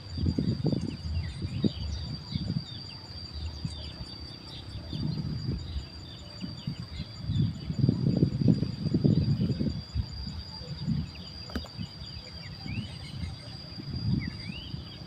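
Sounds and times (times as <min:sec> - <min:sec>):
high insect trill: 0:00.0 - 0:15.0
small birds chirping: 0:00.0 - 0:15.0.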